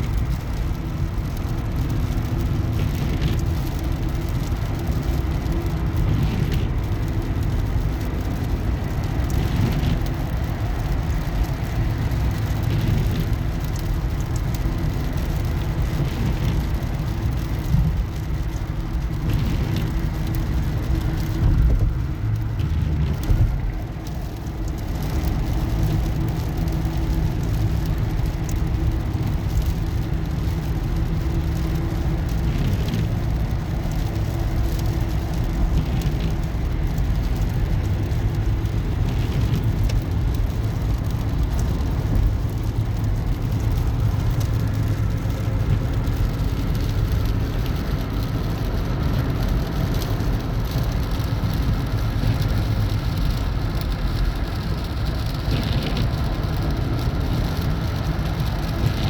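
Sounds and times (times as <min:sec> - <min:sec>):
car engine rumble: 0:00.0 - 0:59.0.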